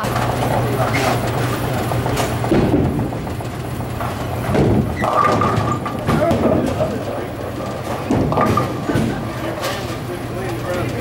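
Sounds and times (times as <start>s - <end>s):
bowling balls rolling on lanes: 0.0s - 11.0s
pinsetter machinery running: 0.0s - 11.0s.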